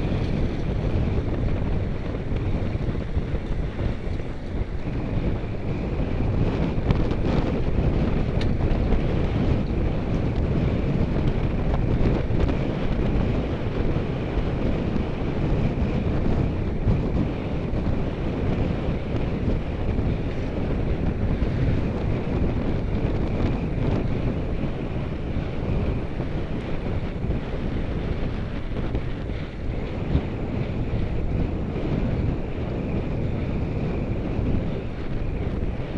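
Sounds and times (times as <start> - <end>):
wind rushing over microphone: 0.0 - 35.9.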